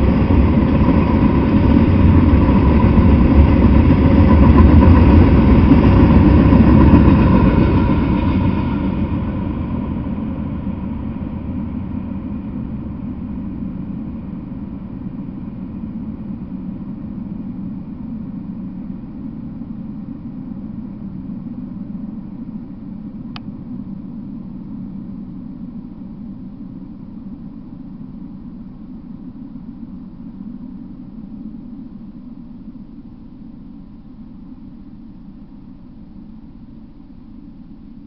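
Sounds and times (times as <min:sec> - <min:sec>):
freight train rumble: 0:00.0 - 0:38.0.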